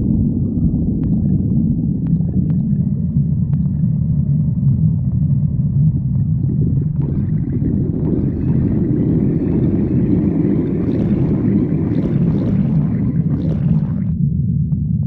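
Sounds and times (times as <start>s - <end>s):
stomach growling: 0.0s - 14.2s.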